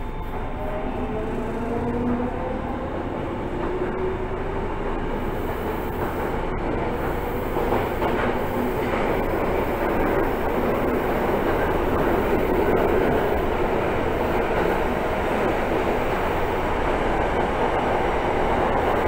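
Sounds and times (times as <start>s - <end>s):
subway train motor whine: 0.0s - 19.0s
wheels on rail noise: 0.0s - 19.0s.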